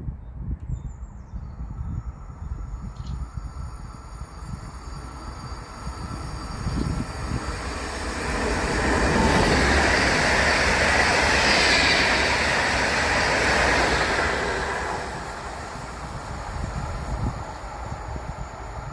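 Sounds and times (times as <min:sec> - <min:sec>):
train passing on rails: 0:01.4 - 0:18.9.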